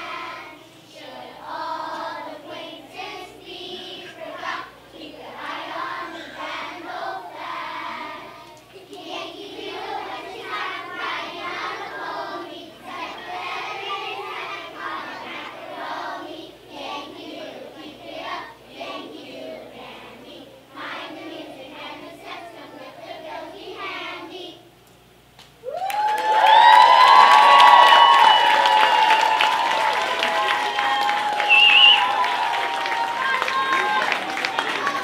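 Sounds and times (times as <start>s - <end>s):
children's choir singing: 0.0s - 24.7s, 28.2s - 35.0s.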